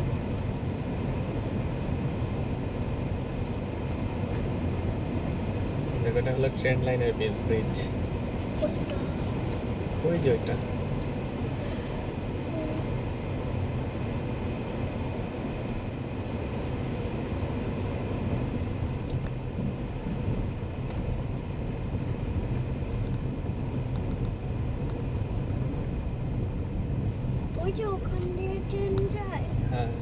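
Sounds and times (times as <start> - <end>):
vehicle engine and tyre drone: 0.0 - 30.0.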